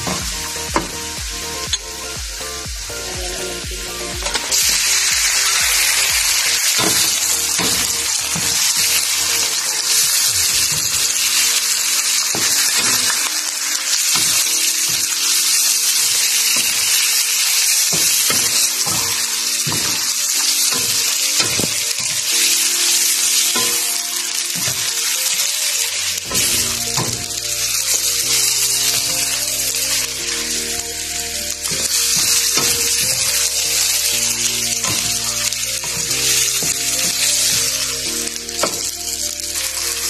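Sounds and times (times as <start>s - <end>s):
chicken sizzling in oil: 0.0s - 40.0s.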